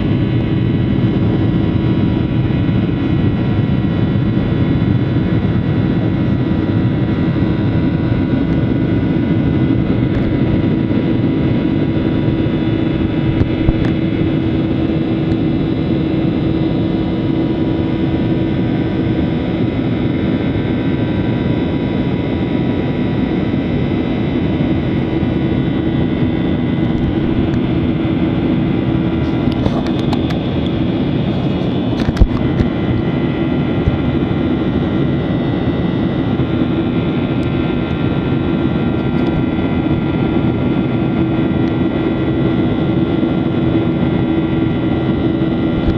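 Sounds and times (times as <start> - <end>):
jet engines roaring in cabin: 0.0 - 45.9.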